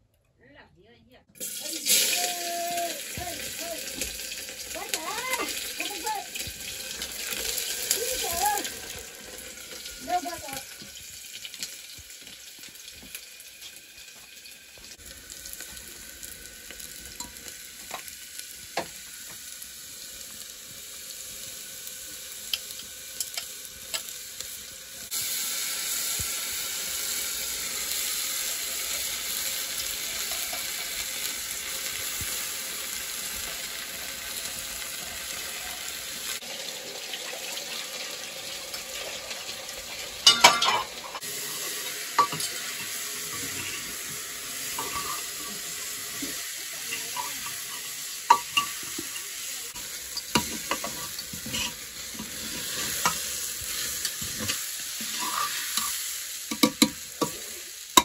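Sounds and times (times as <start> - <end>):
food sizzling in pressure cooker: 1.4 - 58.0.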